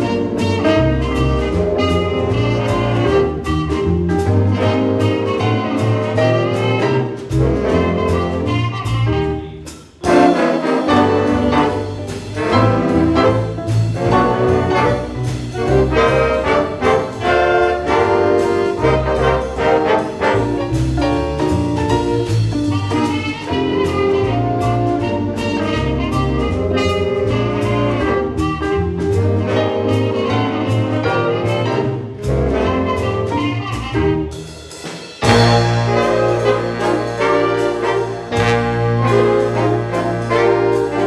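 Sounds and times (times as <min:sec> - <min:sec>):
jazz big band playing: 0:00.0 - 0:41.0.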